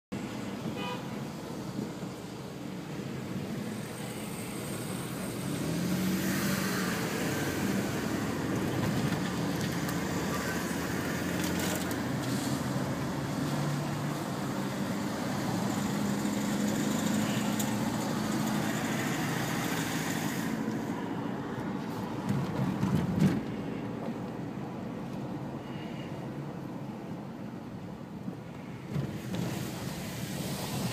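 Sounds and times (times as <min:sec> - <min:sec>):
car engine and road noise: 0:00.1 - 0:30.9.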